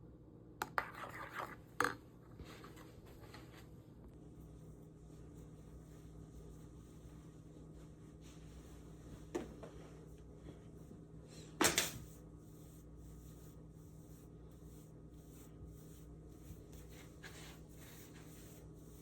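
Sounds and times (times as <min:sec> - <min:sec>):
steady low hum: 0:02.1 - 0:19.0.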